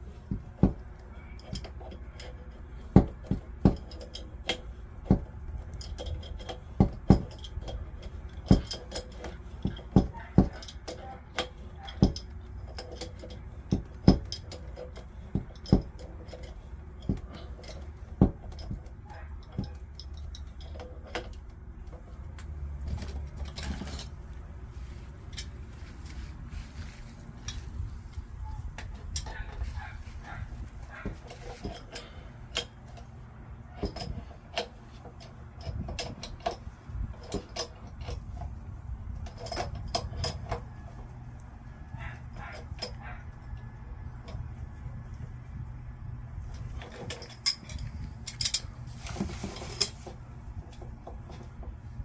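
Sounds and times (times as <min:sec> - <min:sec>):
metal tools clinking: 0:01.0 - 0:04.8, 0:05.6 - 0:38.6, 0:39.2 - 0:41.2, 0:46.5 - 0:50.1.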